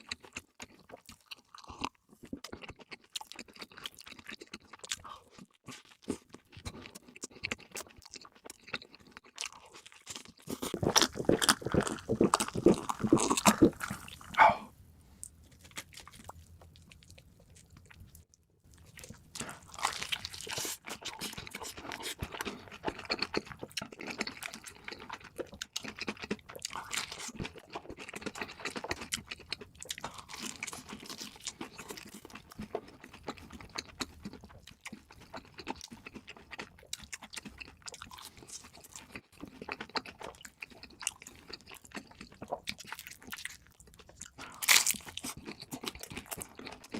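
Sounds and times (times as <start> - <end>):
chewing with wet clicks: 0.0 - 14.4, 15.2 - 46.9.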